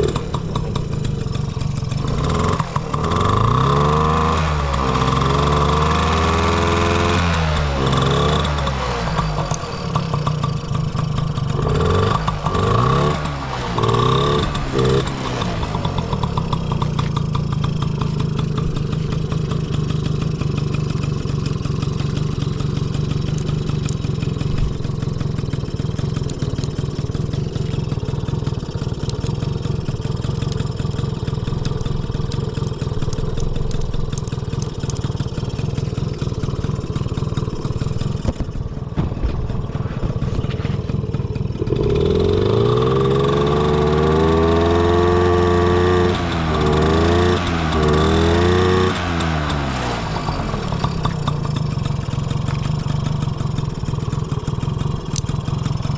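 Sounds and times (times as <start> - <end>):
scooter engine revving and idling: 0.0 - 55.9.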